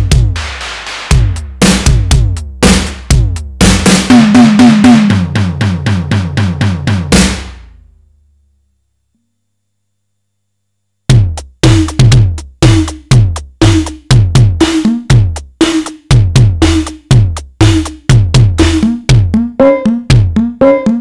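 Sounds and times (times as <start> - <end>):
electronic drum pattern: 0.0 - 7.6, 11.1 - 21.0.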